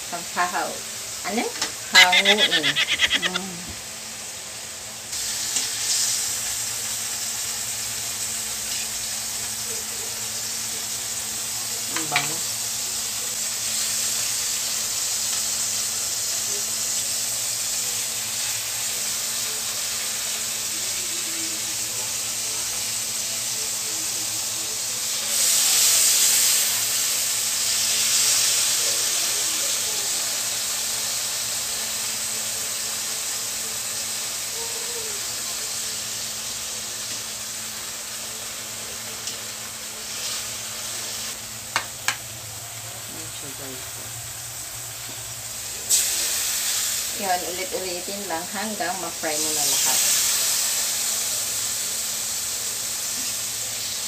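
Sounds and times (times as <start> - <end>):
meat sizzling in hot oil: 0.0 - 54.0.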